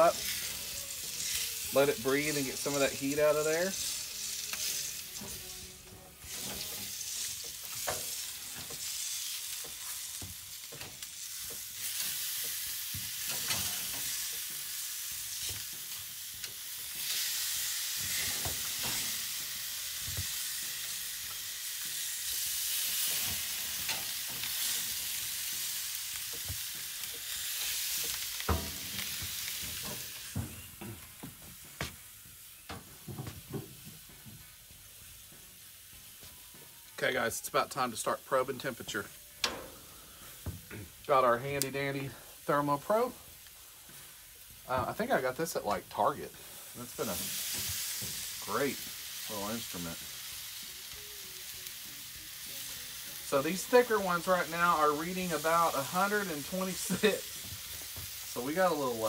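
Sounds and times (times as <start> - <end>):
steaks sizzling on a grill: 0.0 - 59.0.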